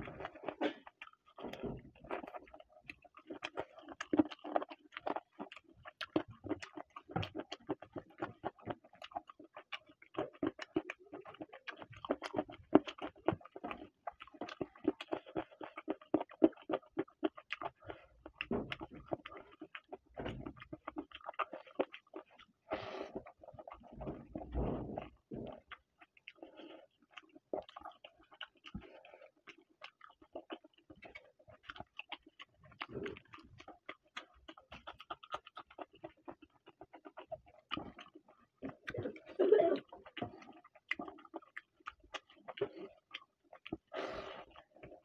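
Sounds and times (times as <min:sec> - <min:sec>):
wet chewing and lip-smacking: 0:00.0 - 0:45.0.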